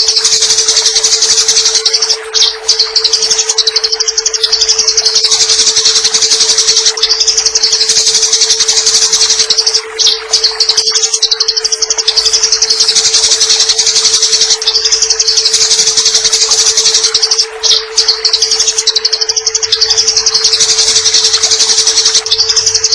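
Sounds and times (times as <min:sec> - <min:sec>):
sparrows chattering harshly: 0:00.0 - 0:22.9
steady low hum: 0:00.0 - 0:22.9.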